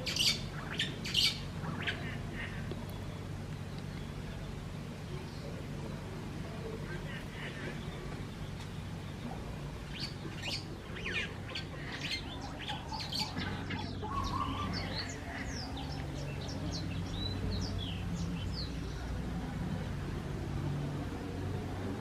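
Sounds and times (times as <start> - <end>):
small birds chirping: 0.0 - 20.9
steady low hum: 0.0 - 22.0.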